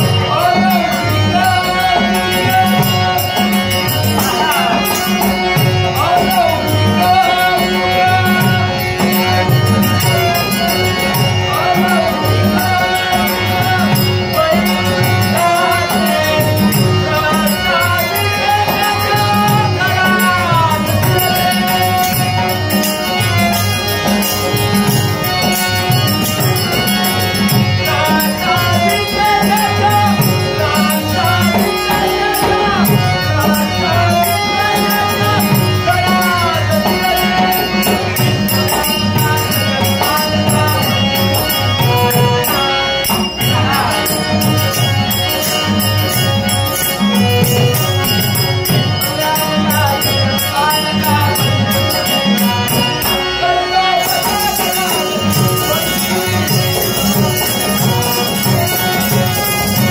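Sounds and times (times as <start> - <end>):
harmonium playing: 0.0 - 59.9
percussion steady beat: 0.0 - 59.9
person singing: 0.0 - 59.9.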